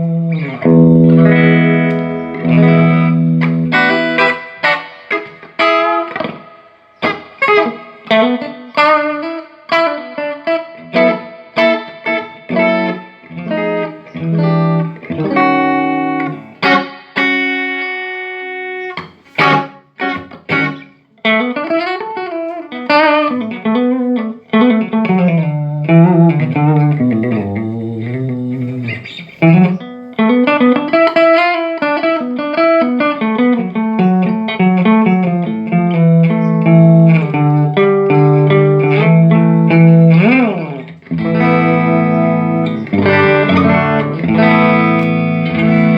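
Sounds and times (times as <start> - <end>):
electric guitar through amp: 0.0 - 45.9.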